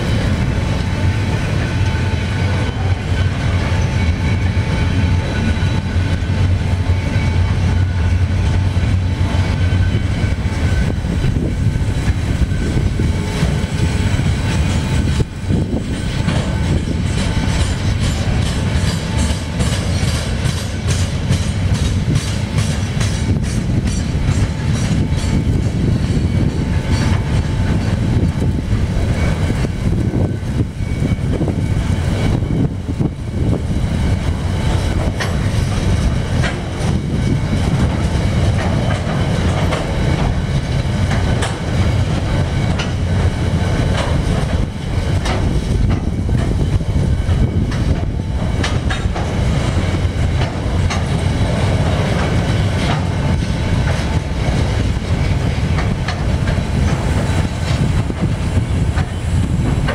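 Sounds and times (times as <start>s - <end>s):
train wagons rolling on rails: 0.0s - 59.9s
wheels clicking over rail joints: 9.2s - 59.9s.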